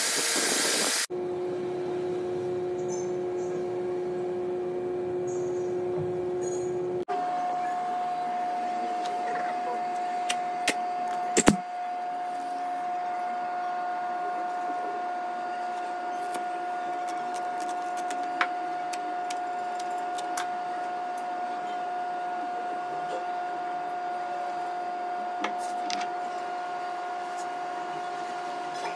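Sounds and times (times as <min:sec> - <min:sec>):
electric motor hum: 0:00.0 - 0:28.8.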